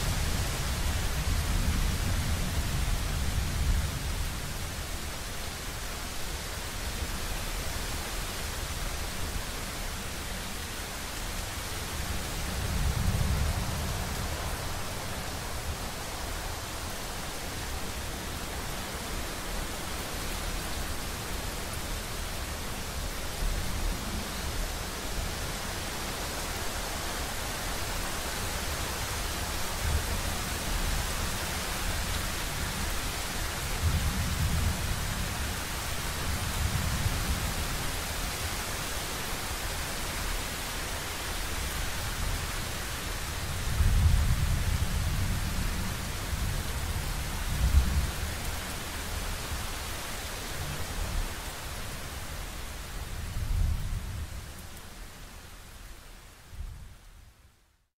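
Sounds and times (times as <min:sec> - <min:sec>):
heavy rain hissing: 0:00.0 - 0:57.5.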